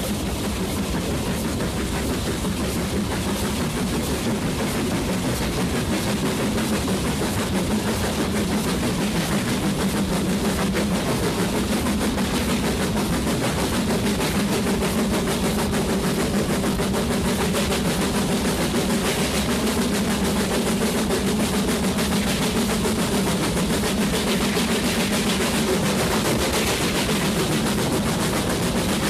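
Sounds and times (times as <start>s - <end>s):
steam locomotive exhaust chuffing: 0.0s - 29.0s.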